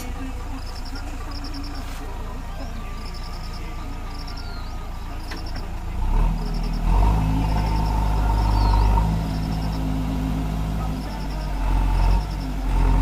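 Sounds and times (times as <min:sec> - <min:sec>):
diesel engine revving: 0:00.0 - 0:13.0
high chirping trills: 0:00.0 - 0:13.0.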